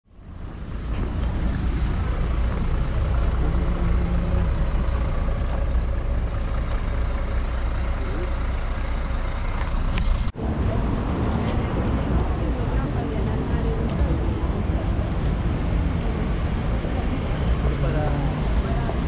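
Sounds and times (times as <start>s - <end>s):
vehicle engines rumbling: 0.0s - 19.0s
heavy vehicle drone: 0.1s - 19.0s.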